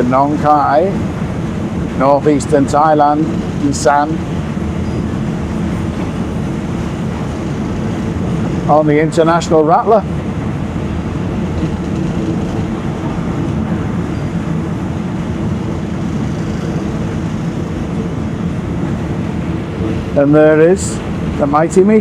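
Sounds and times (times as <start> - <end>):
low steady hum: 0.0 - 22.0
train wheels rumbling: 0.0 - 22.0.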